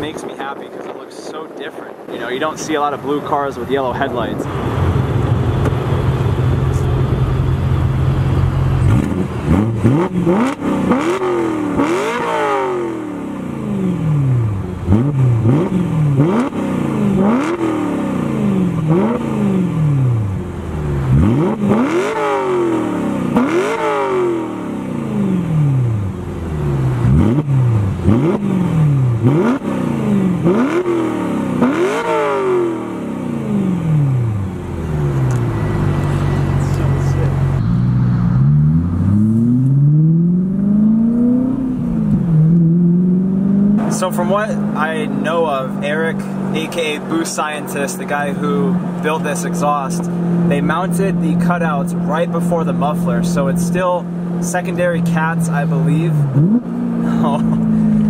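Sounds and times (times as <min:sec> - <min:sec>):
car engine revving: 0:02.2 - 0:58.0.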